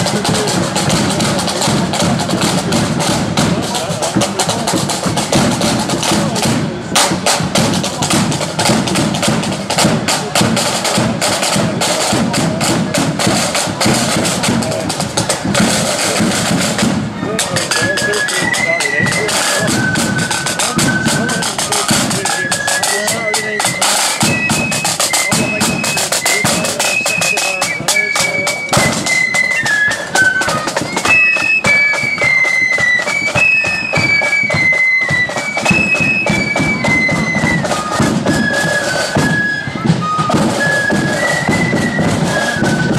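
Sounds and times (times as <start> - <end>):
fast snare drumming: 0.0 - 42.9
flutes playing a melody: 0.0 - 42.9.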